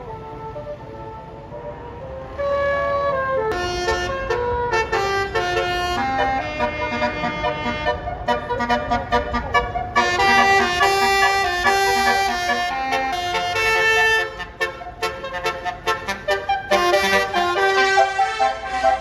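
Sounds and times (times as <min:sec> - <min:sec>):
multi-tone bus horn melody: 0:00.0 - 0:19.0.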